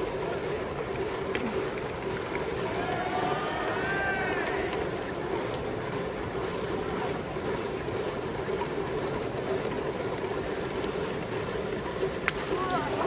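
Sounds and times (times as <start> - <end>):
stadium crowd murmur: 0.0 - 13.0.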